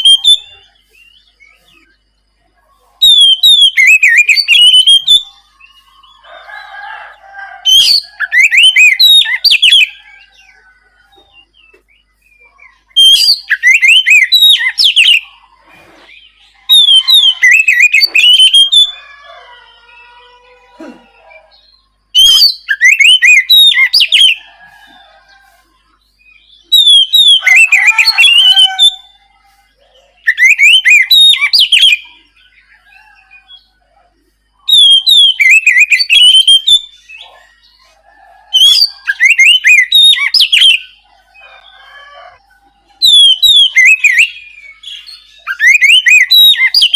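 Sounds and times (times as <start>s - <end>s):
bird whistling song: 0.0s - 2.0s, 3.0s - 6.4s, 7.6s - 19.3s, 21.1s - 33.7s, 34.6s - 37.7s, 38.4s - 42.2s, 42.8s - 46.9s.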